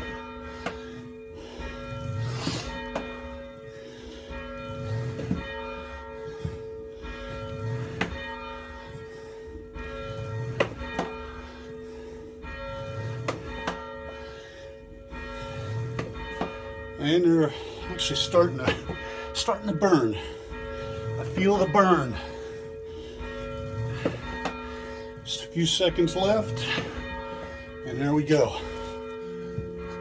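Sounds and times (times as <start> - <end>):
church bell ringing: 0.0 - 30.0.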